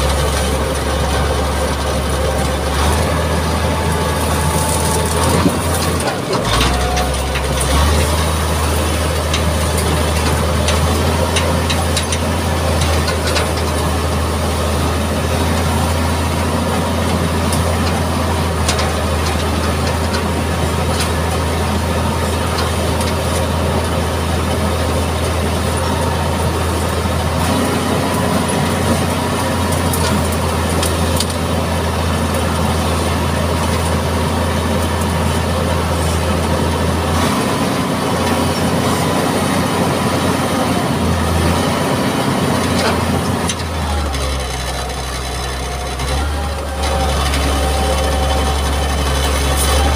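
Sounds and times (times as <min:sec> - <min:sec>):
diesel engine humming: 0:00.0 - 0:49.9.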